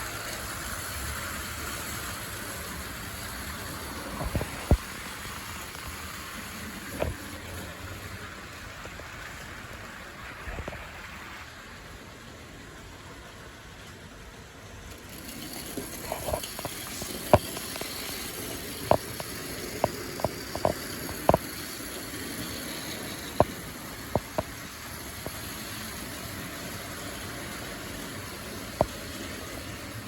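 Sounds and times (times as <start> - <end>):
clockwork toy train whirring: 0.0 - 30.0.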